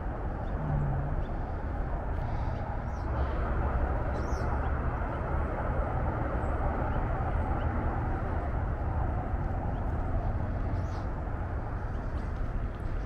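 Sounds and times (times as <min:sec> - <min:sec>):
highway traffic drone: 0:00.0 - 0:13.0.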